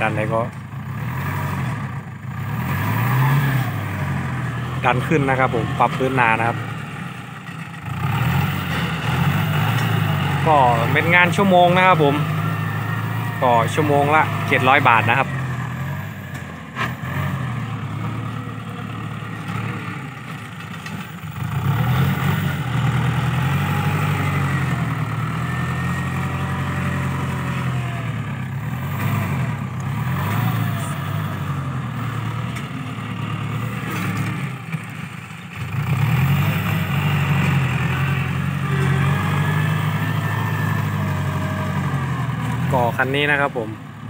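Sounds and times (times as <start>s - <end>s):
tractor diesel engine working: 0.0s - 44.0s.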